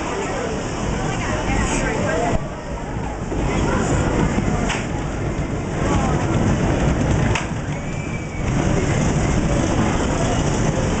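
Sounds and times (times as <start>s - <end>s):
roller coaster wheels rumbling on track: 0.0s - 11.0s.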